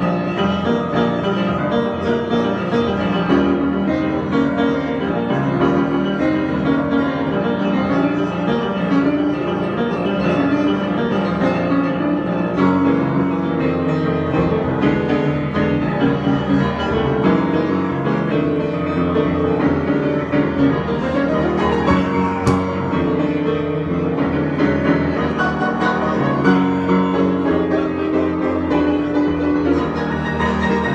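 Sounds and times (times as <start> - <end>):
improvised piano music: 0.0 - 30.9.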